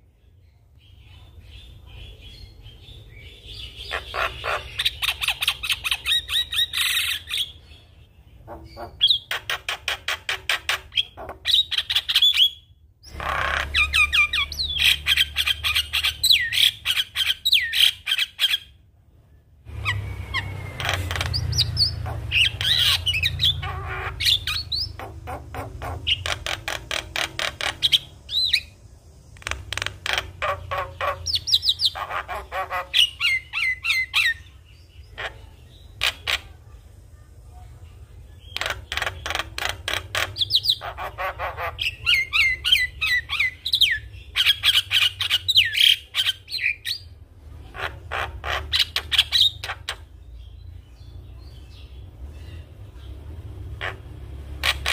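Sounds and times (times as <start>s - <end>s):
myna bird singing: 0.0s - 54.9s.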